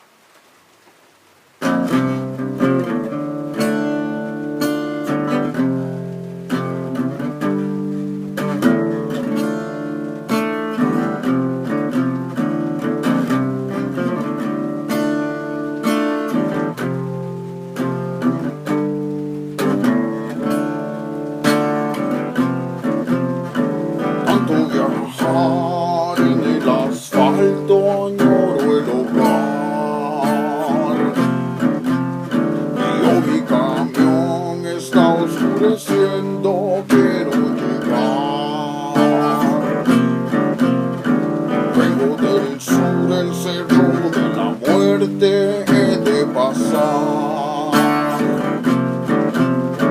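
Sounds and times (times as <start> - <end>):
acoustic guitar plucked and strummed: 1.6 - 49.9.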